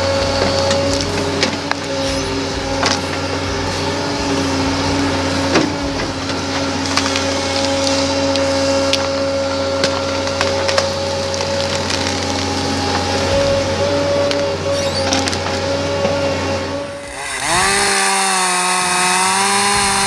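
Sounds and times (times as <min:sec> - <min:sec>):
heavy machine engine humming: 0:00.0 - 0:20.0
wood cracking and splintering: 0:00.0 - 0:20.0.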